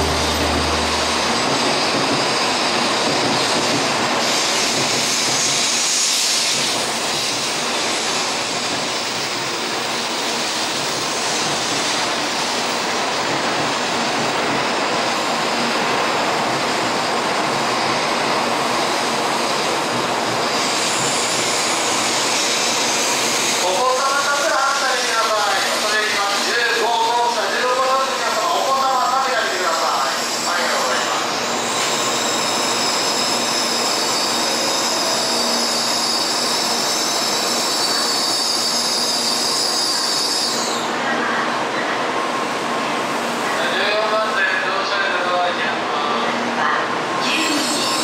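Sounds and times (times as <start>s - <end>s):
train rushing past: 0.0s - 48.0s.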